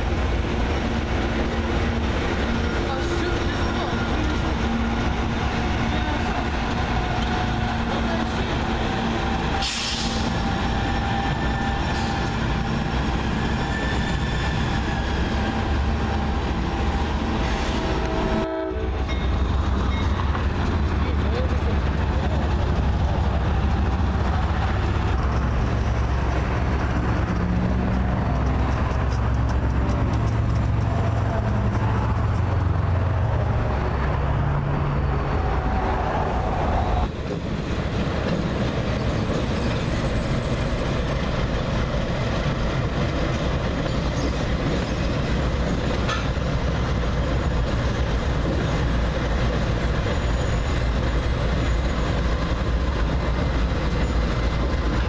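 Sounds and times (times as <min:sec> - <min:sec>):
freight cars rumbling and clattering: 0:00.0 - 0:55.0
locomotive engine drone: 0:00.0 - 0:55.0
train wheels on rails: 0:00.0 - 0:55.0.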